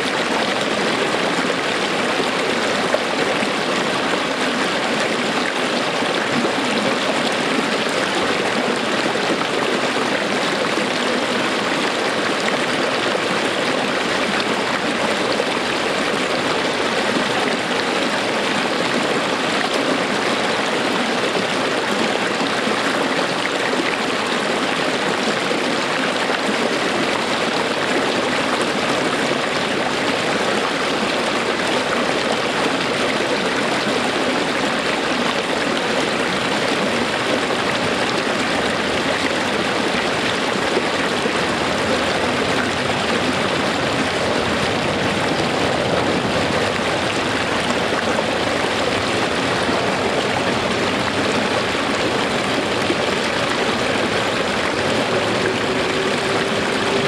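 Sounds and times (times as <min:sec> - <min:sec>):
small waterfall rushing: 0:00.0 - 0:57.0.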